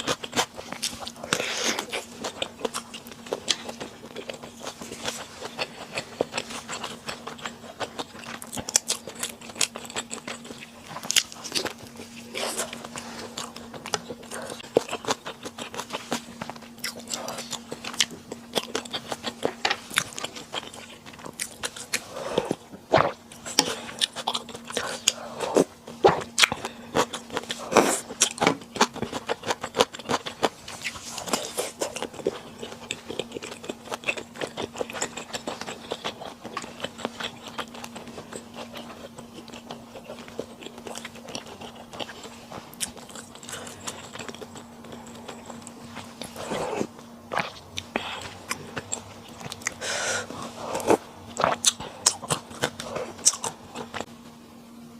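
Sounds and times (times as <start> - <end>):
wet chewing and biting: 0.0 - 54.1
faint steady hum: 0.0 - 54.9.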